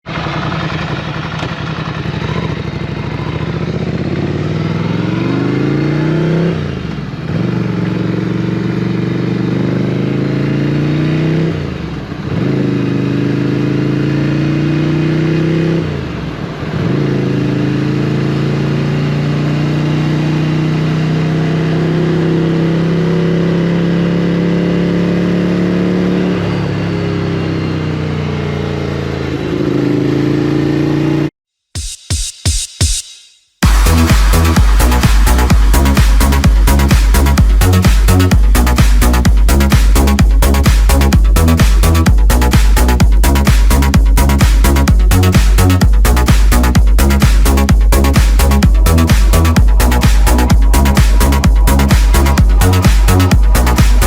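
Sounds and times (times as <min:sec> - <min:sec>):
motorcycle engine accelerating: 0:00.0 - 0:31.3, 0:33.6 - 0:54.0.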